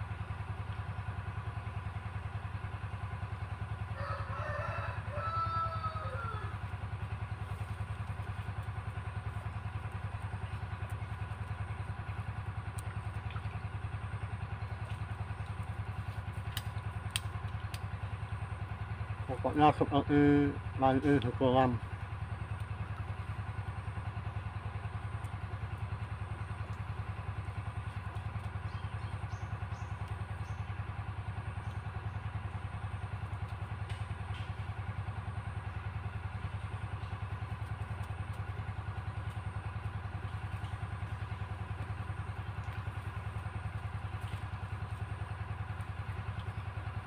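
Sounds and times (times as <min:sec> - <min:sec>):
small engine humming: 0:00.0 - 0:47.0.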